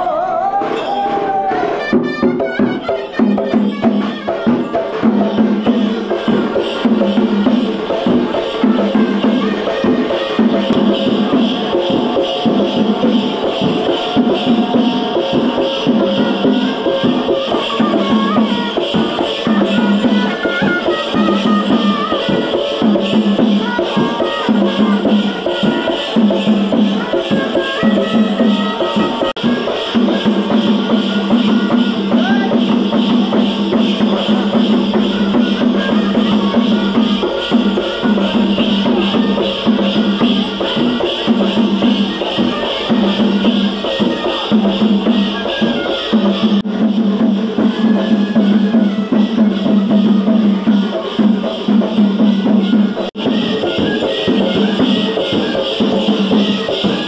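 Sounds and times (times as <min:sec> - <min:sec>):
frame drums beating: 0:00.4 - 0:57.0
ankle bells jingling: 0:02.3 - 0:57.0.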